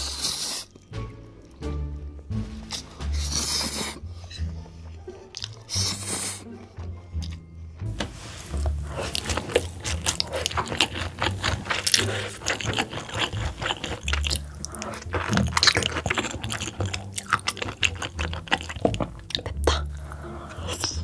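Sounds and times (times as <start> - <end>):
mouth clicks and smacks: 0.0 - 2.1, 2.7 - 7.5, 8.6 - 21.0
person chewing food: 0.0 - 7.5, 8.1 - 21.0.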